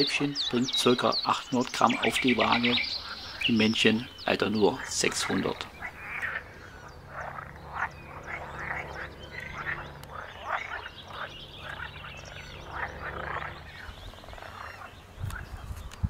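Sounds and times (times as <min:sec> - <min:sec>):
frogs croaking: 0:00.0 - 0:15.7.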